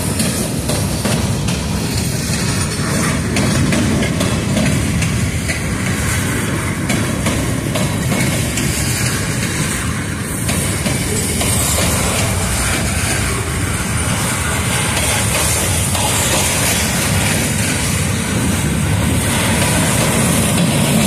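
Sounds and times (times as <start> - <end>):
rail clicks: 0.0 - 21.0
train wheels rumbling on rails: 0.0 - 21.0.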